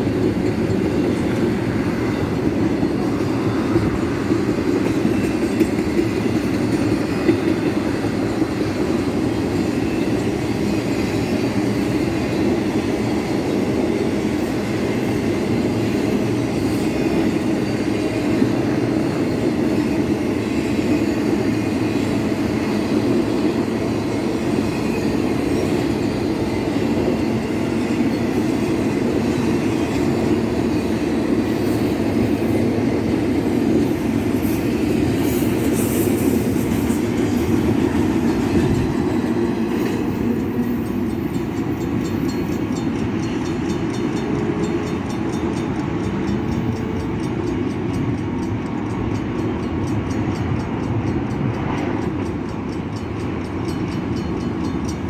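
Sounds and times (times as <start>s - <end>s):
freight train rolling past: 0.0s - 55.0s
wheels clickety-clack on rail: 0.0s - 55.0s.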